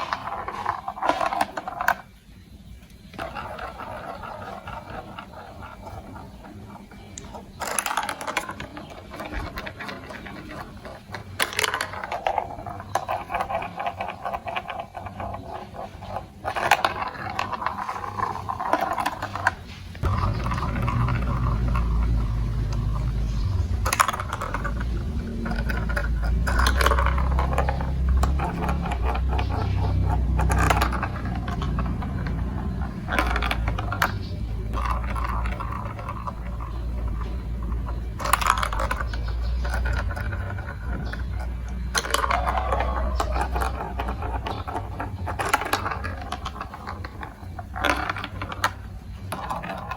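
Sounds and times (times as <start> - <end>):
low rumble of rolling marbles: 0.0 - 49.9
marbles clicking and rattling: 0.0 - 49.9.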